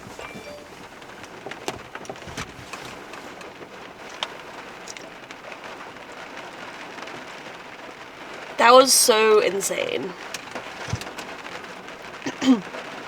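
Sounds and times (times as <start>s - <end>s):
heavy rain on car roof: 0.0s - 13.0s.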